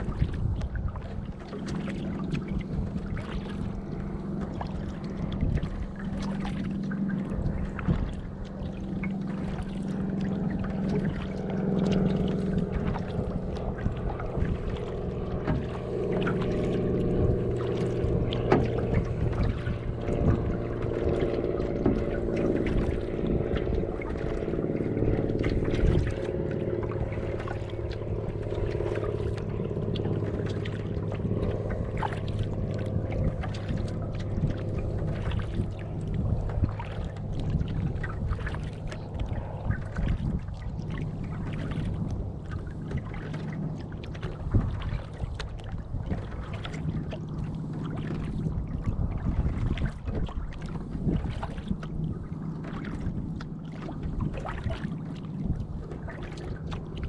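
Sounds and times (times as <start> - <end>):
low hum: 0.0 - 57.0
water lapping against hull: 0.0 - 57.0.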